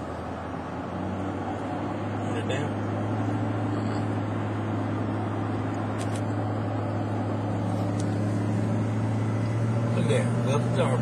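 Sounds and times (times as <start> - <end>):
car driving on highway: 0.0 - 11.0.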